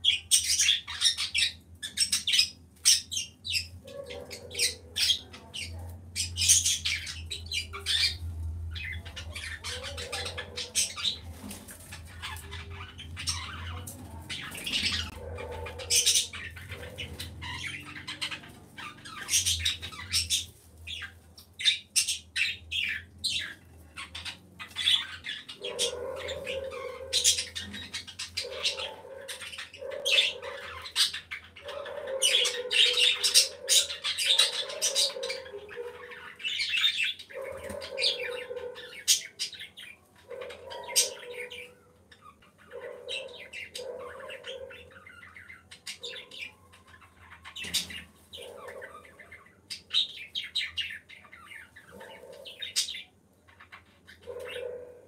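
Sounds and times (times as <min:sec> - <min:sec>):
birds chirping: 0:00.0 - 0:55.0
pigeons cooing: 0:03.4 - 0:21.0, 0:24.8 - 0:53.1, 0:54.1 - 0:55.0.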